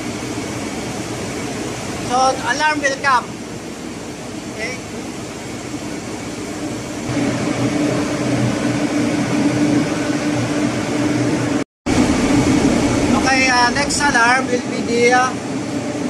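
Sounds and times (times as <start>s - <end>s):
steady machinery hum: 0.0s - 16.0s.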